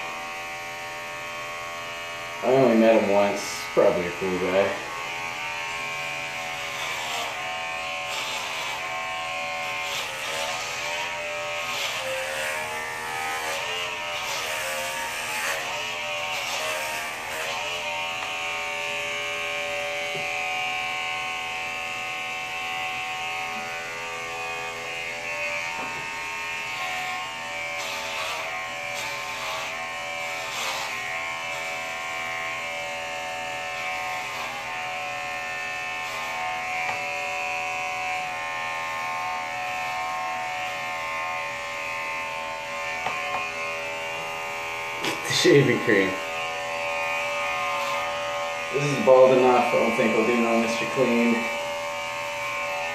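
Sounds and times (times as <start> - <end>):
electric hair clippers buzzing: 0.0 - 52.9.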